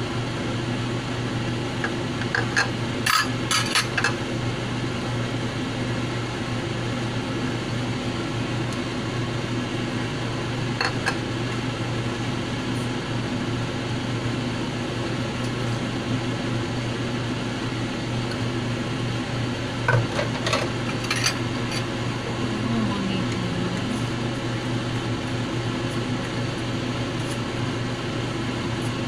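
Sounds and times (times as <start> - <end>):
kitchen appliance fan hum: 0.0 - 29.0.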